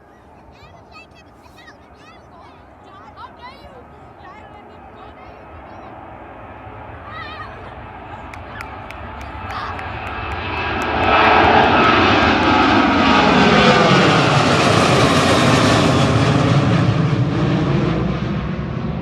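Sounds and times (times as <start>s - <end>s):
jet airliner passing overhead: 0.0s - 19.0s.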